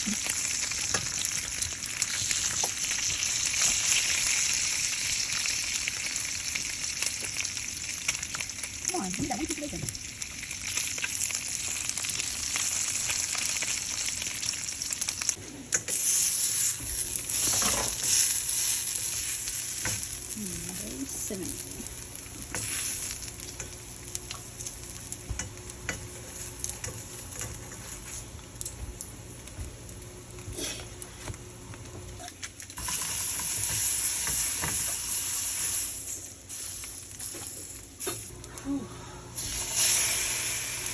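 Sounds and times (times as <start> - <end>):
food sizzling in frying pan: 0.0 - 40.9.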